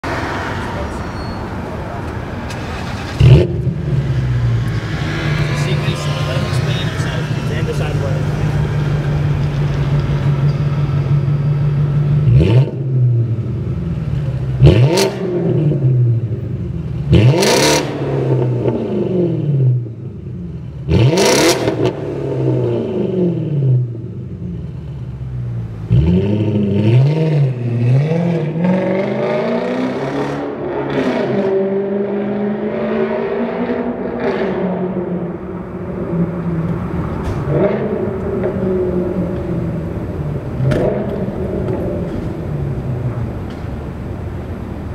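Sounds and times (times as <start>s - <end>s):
car engine idling and revving: 1.6s - 44.9s.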